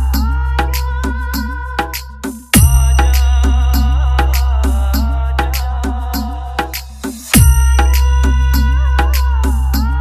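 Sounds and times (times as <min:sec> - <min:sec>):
steady drum beat: 0:00.0 - 0:10.0.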